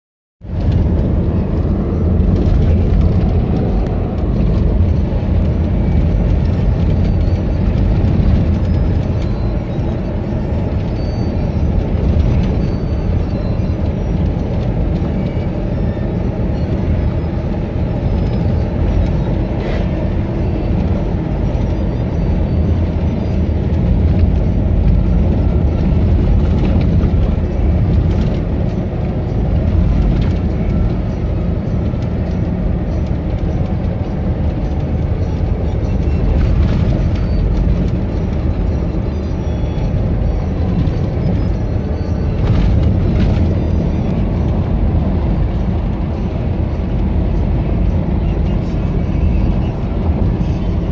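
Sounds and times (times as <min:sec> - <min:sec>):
vehicle engine and tyre rumble: 0:00.4 - 0:50.9.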